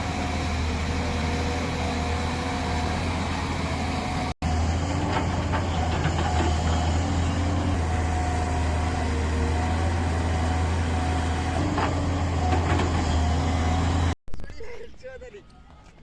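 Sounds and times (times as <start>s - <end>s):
diesel engine rumbling: 0.0s - 14.2s.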